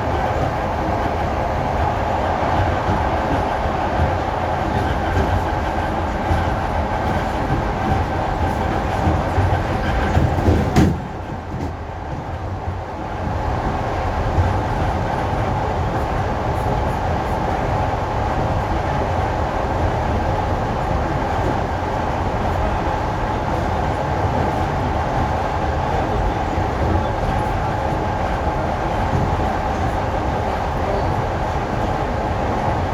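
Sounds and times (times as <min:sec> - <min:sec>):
electric train running rumble: 0:00.0 - 0:32.9
train whine: 0:00.0 - 0:32.9.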